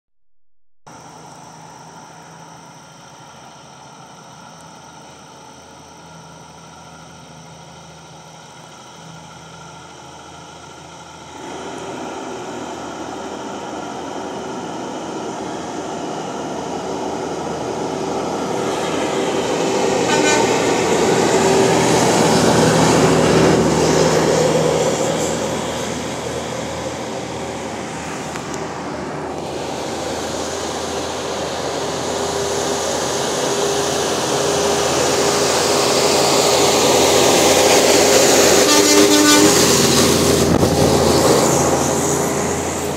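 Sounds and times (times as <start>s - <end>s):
truck diesel engine passing: 0.9s - 42.9s
tyres on highway: 0.9s - 42.9s.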